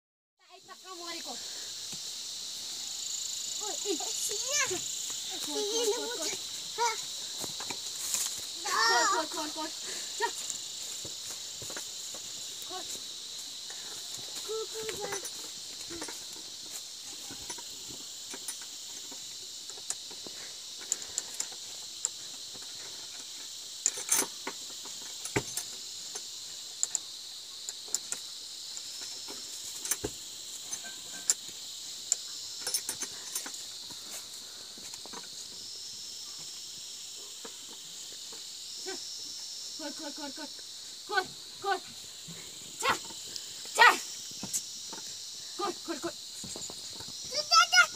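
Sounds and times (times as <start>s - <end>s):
high-pitched insect chorus: 0.4s - 47.9s.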